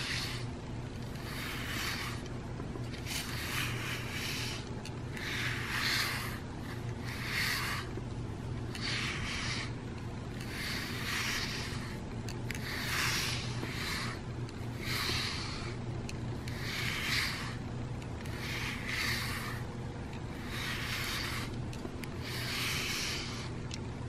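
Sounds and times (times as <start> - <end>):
brush stroking cat fur: 0.0 - 23.8.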